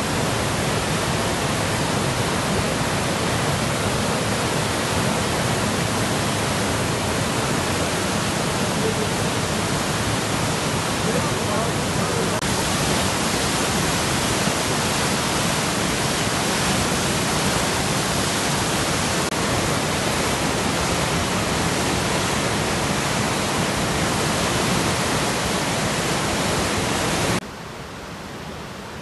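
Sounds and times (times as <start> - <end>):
floodwater rushing roar: 0.0 - 29.0.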